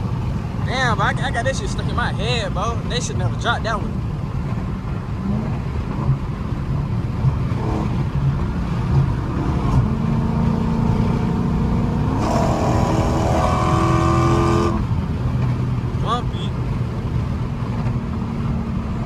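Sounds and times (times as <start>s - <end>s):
car exhaust rumble: 0.0s - 19.0s.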